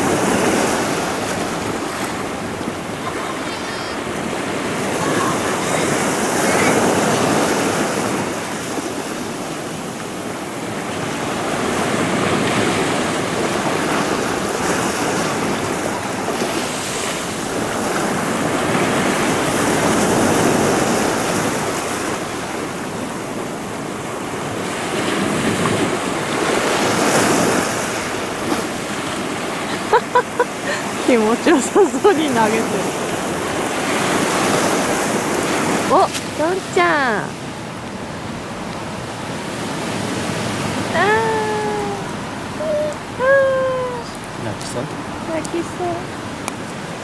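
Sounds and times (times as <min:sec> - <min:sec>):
sea waves on pebble beach: 0:00.0 - 0:47.0.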